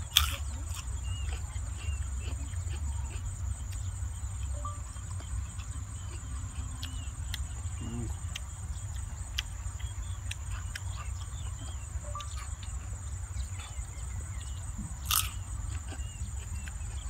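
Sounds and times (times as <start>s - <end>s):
close-up chewing: 0.0s - 17.0s
high-pitched insect hum: 0.0s - 17.0s.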